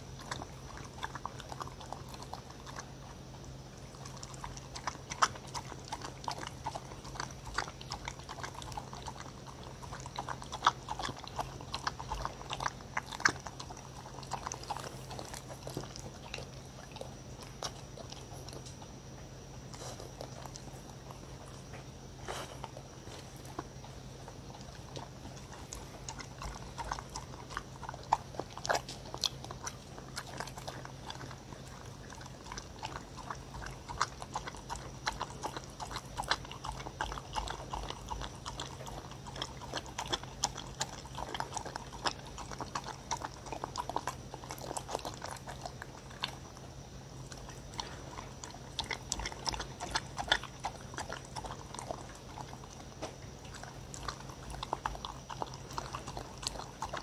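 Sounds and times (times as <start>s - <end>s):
dog licking and slurping: 0.0s - 57.0s.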